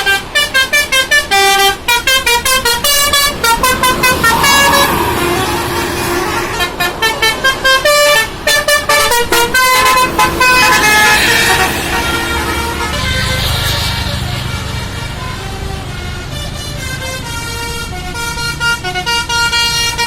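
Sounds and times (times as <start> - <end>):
bus musical horn melody: 0.0 - 20.0.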